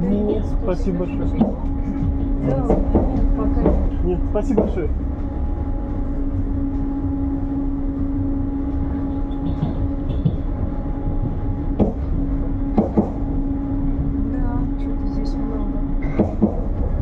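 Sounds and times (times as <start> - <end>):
constant hum: 0.0 - 17.0
train carriage rumble: 0.0 - 17.0.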